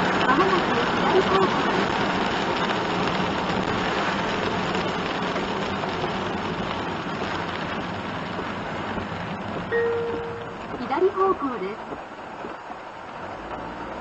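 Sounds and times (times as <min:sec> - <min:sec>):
rain on vehicle: 0:00.0 - 0:14.0
tyres on wet road: 0:00.0 - 0:14.0.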